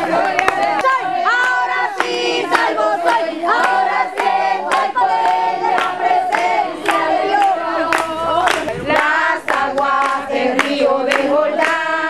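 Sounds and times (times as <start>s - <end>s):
congregation singing: 0.0s - 12.0s
hand-clapping on the beat: 0.0s - 12.0s.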